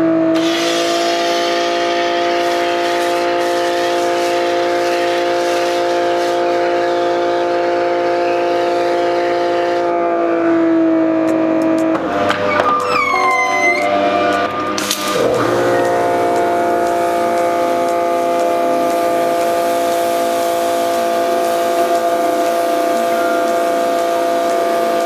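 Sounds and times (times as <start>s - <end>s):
pressure washer motor whine: 0.0s - 25.0s
spray hissing: 0.4s - 9.8s, 14.4s - 25.0s.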